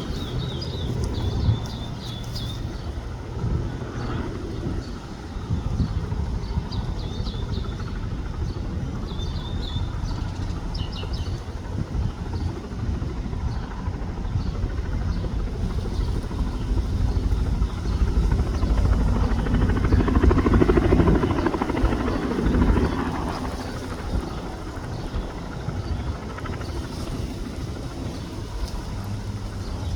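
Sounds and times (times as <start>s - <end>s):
helicopter rotor chopping: 0.0s - 29.9s.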